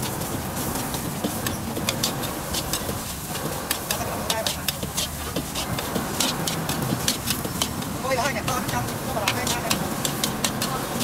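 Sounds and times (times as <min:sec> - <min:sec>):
food sizzling: 0:00.0 - 0:11.0
metal spatula scraping a wok: 0:00.0 - 0:11.0.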